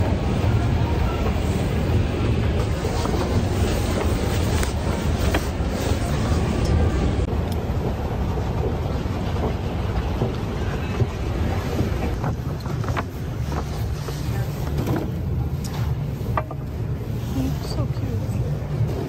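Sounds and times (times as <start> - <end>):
store background rumble and hiss: 0.0 - 19.0.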